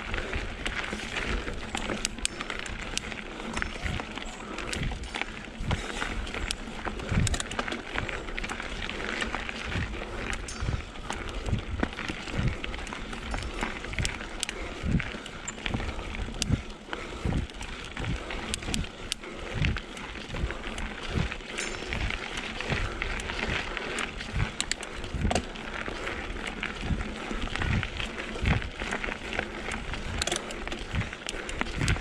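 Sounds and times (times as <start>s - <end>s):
bike rattling: 0.0s - 32.0s
bike tyres rolling over dirt: 0.0s - 32.0s.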